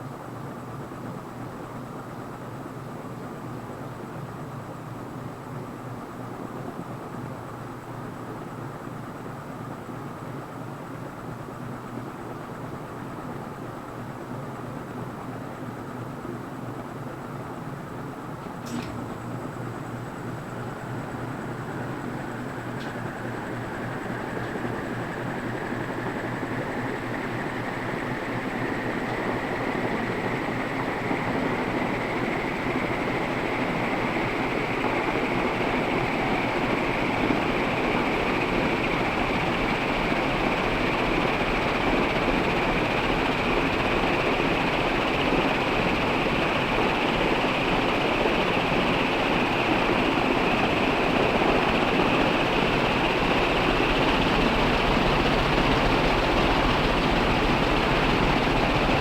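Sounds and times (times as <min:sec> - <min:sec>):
ceiling fan running: 0:00.0 - 0:59.0.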